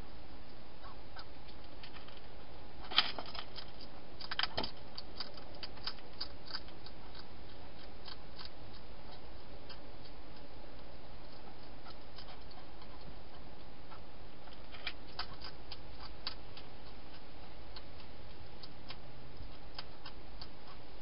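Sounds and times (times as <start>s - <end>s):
hedgehog crunching dry food: 1.5s - 20.8s.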